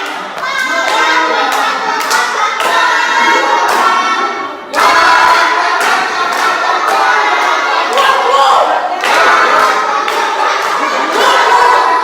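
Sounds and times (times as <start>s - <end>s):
group singing in chorus: 0.0s - 12.0s.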